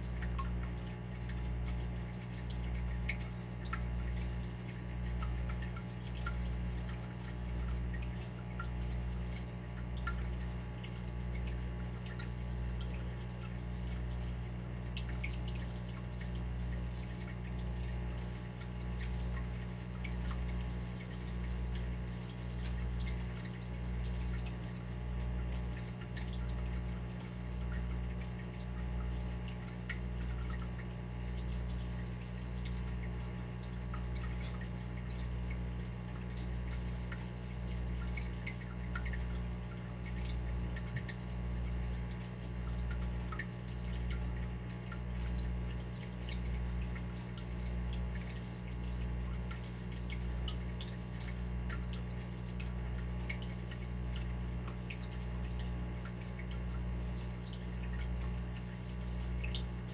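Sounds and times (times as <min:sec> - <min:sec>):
water dripping and trickling: 0:00.0 - 0:59.9.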